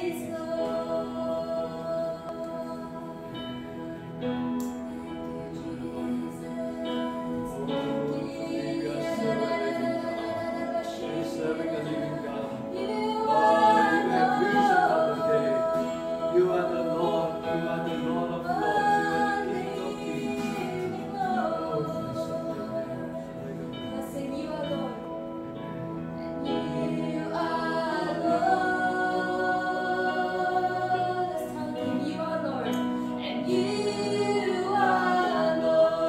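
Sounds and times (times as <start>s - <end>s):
sustained chords: 0.0s - 36.0s
voices singing held notes: 0.0s - 36.0s.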